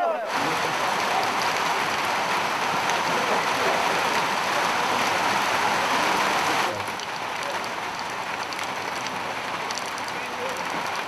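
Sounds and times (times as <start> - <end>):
rain hissing: 0.2 - 11.0
light rain ticks: 0.3 - 11.0.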